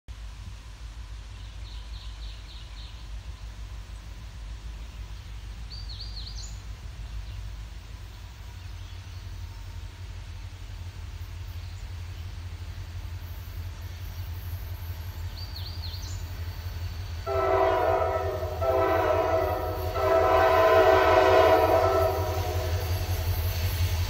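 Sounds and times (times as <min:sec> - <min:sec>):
steady low rumble: 0:00.1 - 0:24.0.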